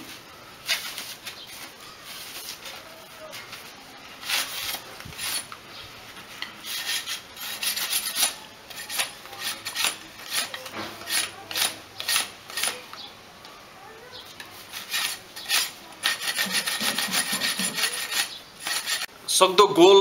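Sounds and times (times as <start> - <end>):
knife scraping bamboo: 0.0 - 5.6, 6.3 - 12.9, 14.4 - 19.1.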